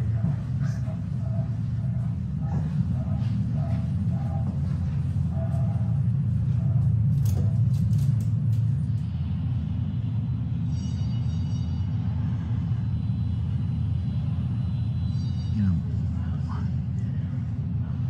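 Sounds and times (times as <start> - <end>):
faint high whine: 0.0 - 18.0
subway car low rumble: 0.0 - 18.0.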